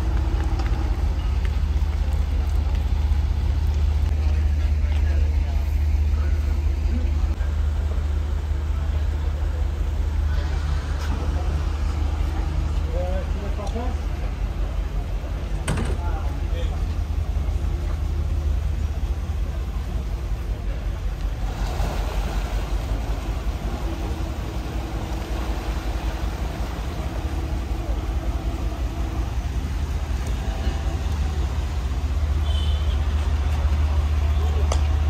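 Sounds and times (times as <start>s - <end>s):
boat engines rumbling: 0.0s - 35.0s.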